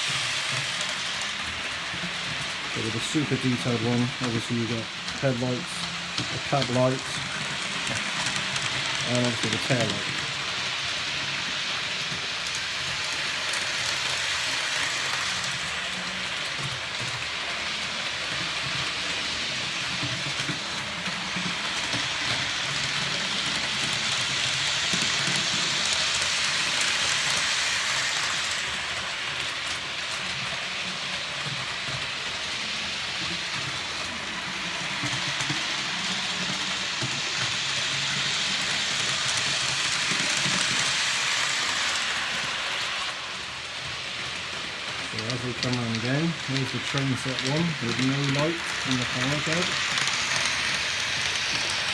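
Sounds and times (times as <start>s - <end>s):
model trains whirring on rails: 0.0s - 51.9s.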